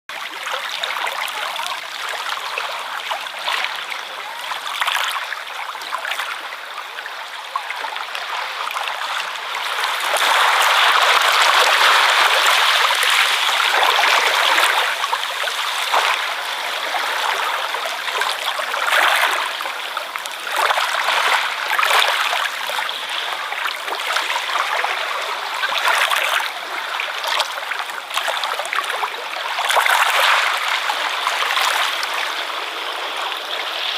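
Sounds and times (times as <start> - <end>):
ocean waves washing ashore: 0.2 - 33.9.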